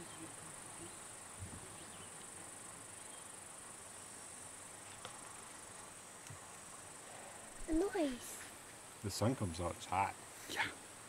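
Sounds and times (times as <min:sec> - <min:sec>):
insect chirring: 0:00.0 - 0:09.1.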